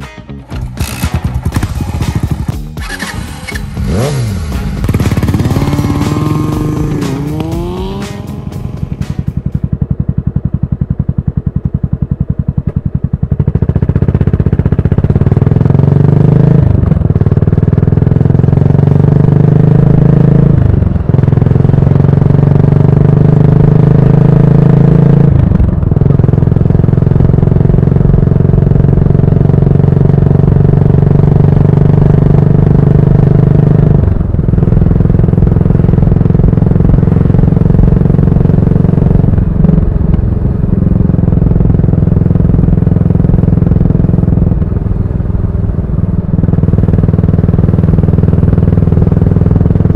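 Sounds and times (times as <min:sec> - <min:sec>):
motorcycle engine accelerating through gears: 0:00.0 - 0:49.9.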